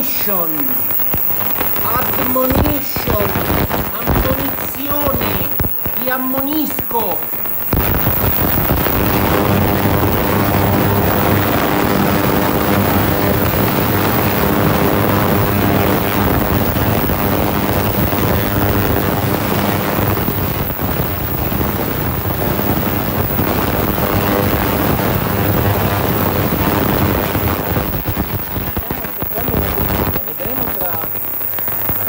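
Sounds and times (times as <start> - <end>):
ultrasonic cleaner buzzing drone: 0.0 - 32.0.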